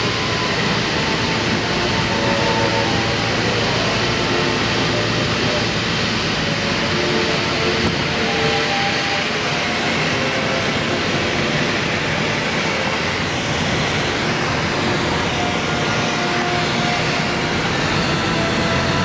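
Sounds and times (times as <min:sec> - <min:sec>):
airflow rushing: 0:00.0 - 0:19.0
propeller plane engine: 0:00.0 - 0:19.0.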